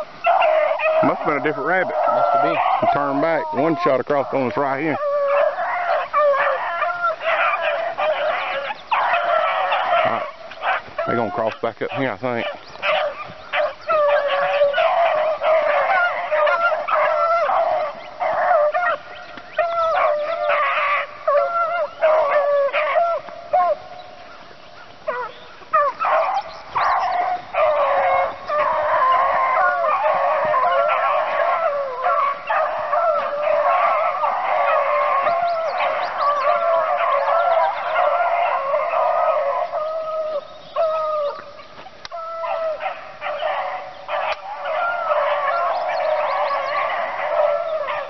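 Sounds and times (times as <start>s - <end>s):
dogs baying in chorus: 0.0s - 48.0s.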